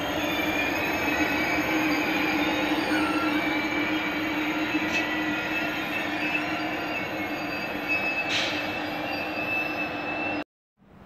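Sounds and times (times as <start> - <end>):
high squealing tone: 0.0 - 10.4
train running slowly: 0.0 - 11.0.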